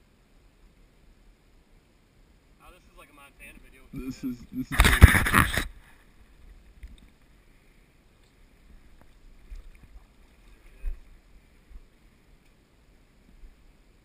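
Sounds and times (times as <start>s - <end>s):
faint river water: 0.0s - 14.0s.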